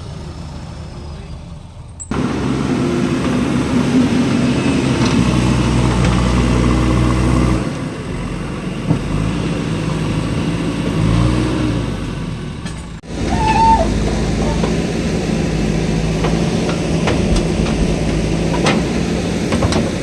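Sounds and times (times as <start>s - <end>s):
backhoe diesel engine: 0.0s - 20.0s.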